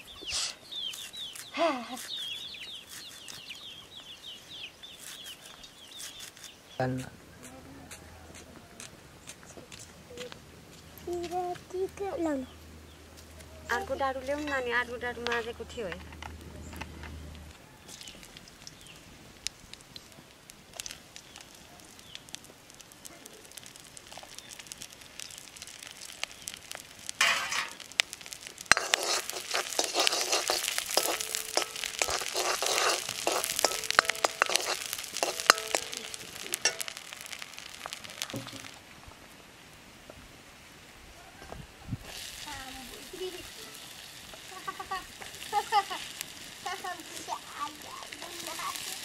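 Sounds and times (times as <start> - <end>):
batter sizzling in hot oil: 0.0 - 7.0, 12.4 - 40.2, 41.9 - 49.0.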